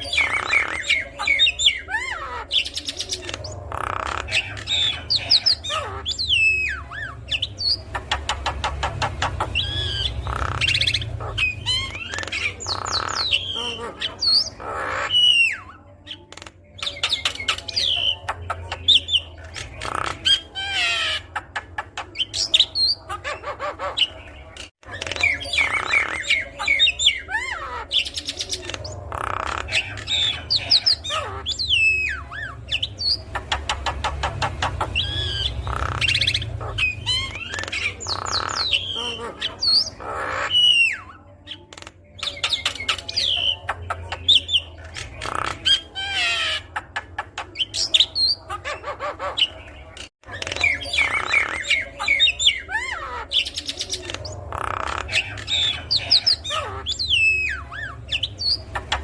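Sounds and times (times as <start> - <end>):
bird singing whistles and chatter: 0.0 - 21.4, 22.0 - 59.0.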